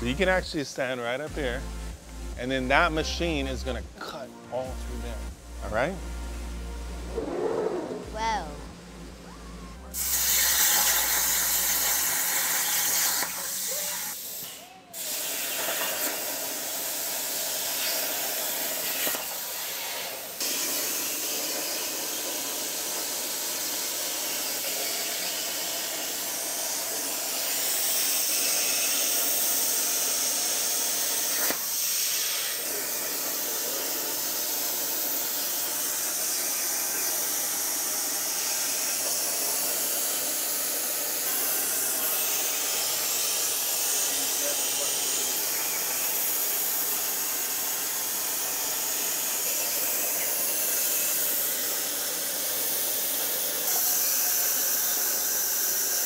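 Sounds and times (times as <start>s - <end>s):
plasma torch cutting steel hiss: 9.9s - 56.0s.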